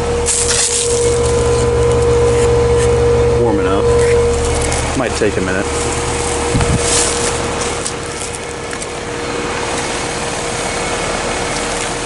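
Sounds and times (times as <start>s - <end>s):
fan airflow rushing: 0.0s - 12.0s
heat pump hum: 0.0s - 12.0s.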